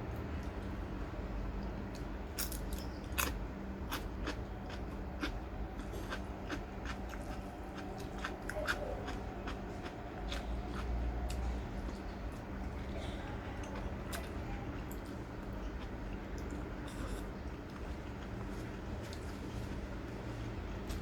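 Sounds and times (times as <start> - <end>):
faint steady hum: 0.0 - 21.0
crunchy food being chewed: 1.6 - 21.0.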